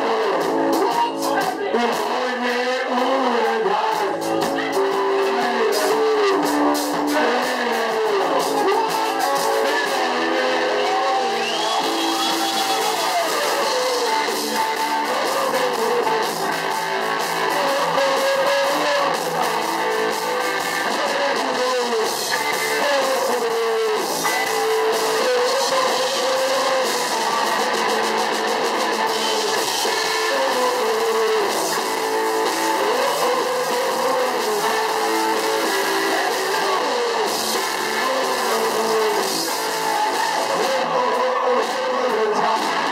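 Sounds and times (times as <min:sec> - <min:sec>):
live band music with guitar: 0:00.0 - 0:42.9.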